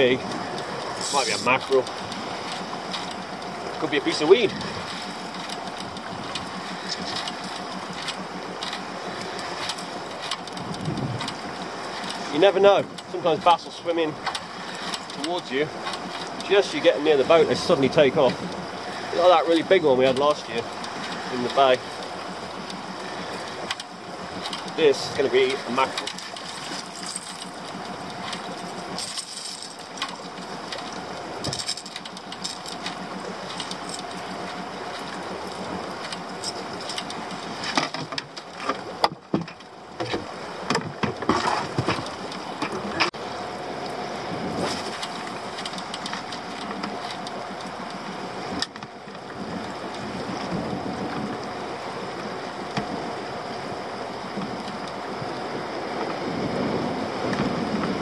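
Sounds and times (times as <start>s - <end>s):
knocks and clatters in boat: 0.0s - 58.0s
outboard motor running: 0.0s - 58.0s
water noise: 0.0s - 58.0s
wind: 0.0s - 58.0s.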